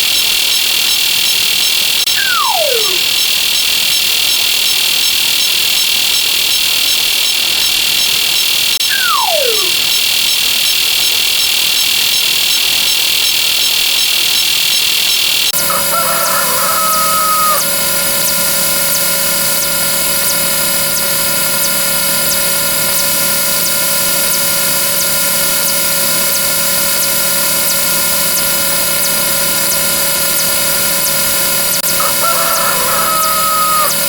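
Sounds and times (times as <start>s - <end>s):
faint regular clicks: 0.0s - 32.0s.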